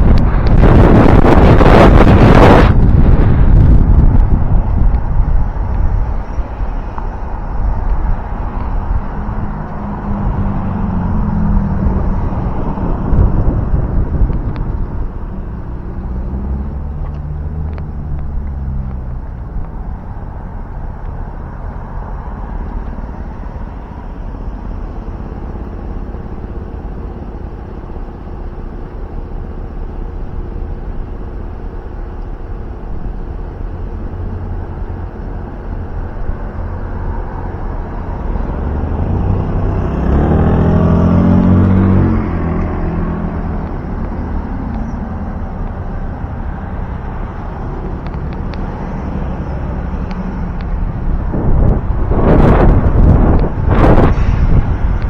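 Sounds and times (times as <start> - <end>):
cars passing: 0.0 - 55.0
vehicle engines rumbling: 0.0 - 55.0.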